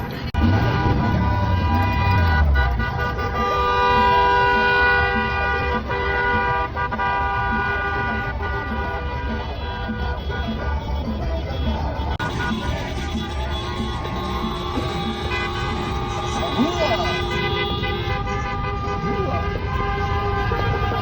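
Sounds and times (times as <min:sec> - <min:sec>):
car horns honking: 0:00.0 - 0:21.0
traffic noise: 0:00.0 - 0:21.0.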